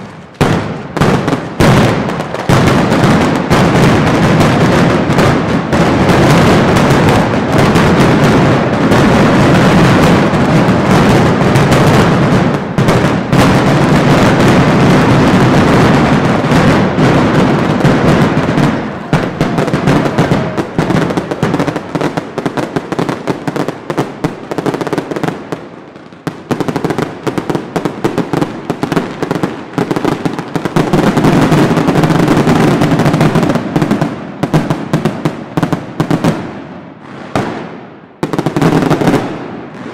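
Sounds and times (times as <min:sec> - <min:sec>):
firecrackers barrage: 0:00.0 - 0:39.9.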